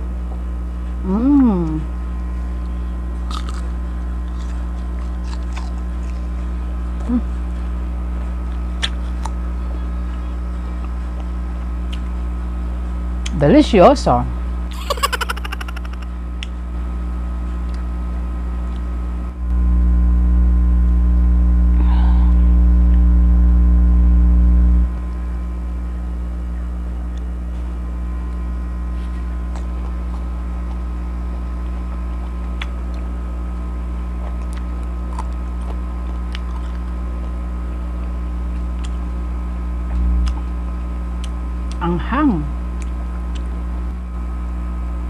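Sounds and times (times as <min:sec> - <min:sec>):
low electrical mains hum: 0:00.0 - 0:45.0.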